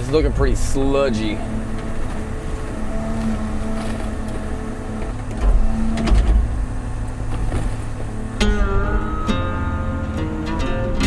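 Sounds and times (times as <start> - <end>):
excavator diesel engine rumbling: 0.0 - 11.0
hydraulic whine: 0.0 - 11.0.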